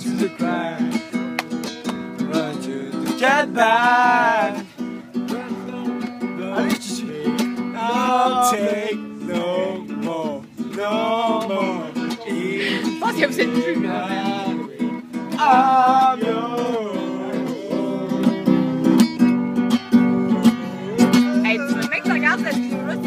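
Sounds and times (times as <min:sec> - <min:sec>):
man singing: 0:00.0 - 0:19.3, 0:20.0 - 0:23.0
acoustic guitar strumming: 0:00.0 - 0:23.0.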